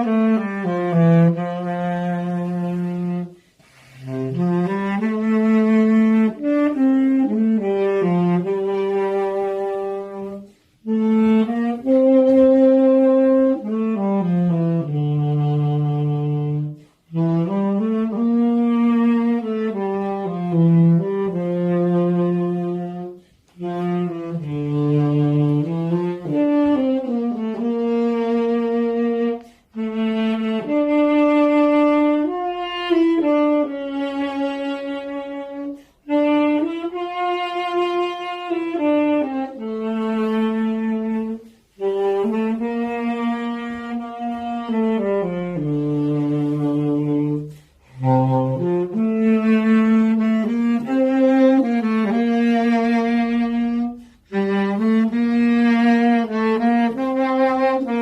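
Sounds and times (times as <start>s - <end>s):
tenor saxophone melody: 0.0s - 58.0s.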